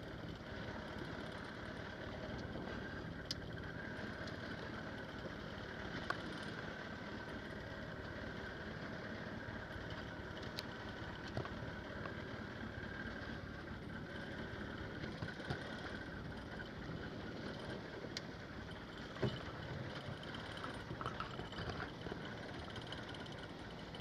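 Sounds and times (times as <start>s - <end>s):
fishing boat at sea: 0.0s - 24.0s.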